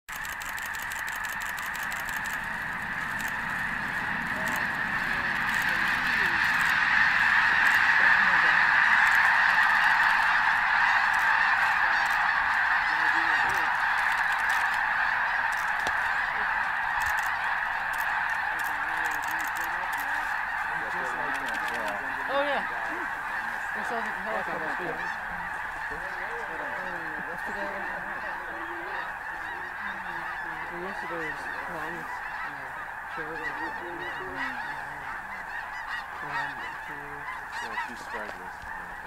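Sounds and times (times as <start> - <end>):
flock of geese honking: 0.1 - 39.0.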